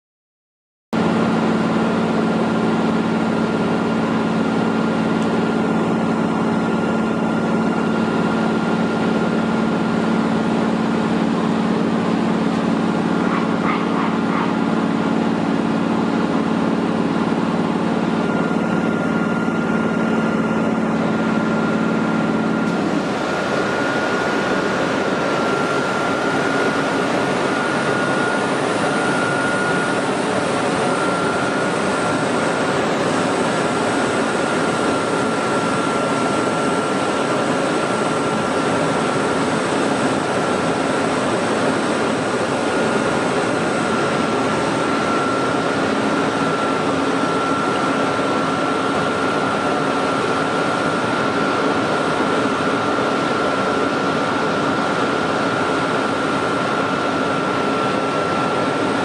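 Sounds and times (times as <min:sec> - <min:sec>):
high steady whine: 0:01.0 - 0:59.0
locomotive cooling blowers whirring: 0:01.0 - 0:59.0.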